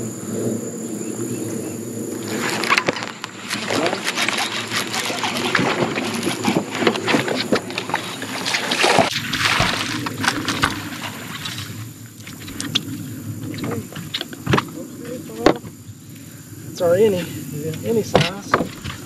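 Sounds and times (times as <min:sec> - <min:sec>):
water splashing and sloshing: 0:02.0 - 0:16.7, 0:17.6 - 0:19.0.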